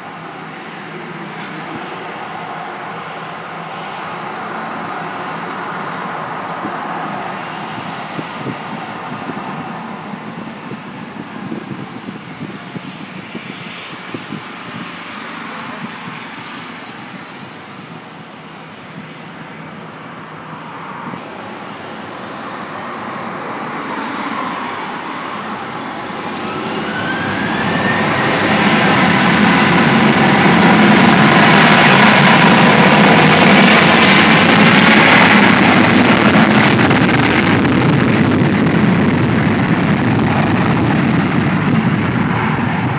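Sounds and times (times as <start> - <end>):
jet engines spooling up: 0.0 - 19.2, 21.2 - 42.9.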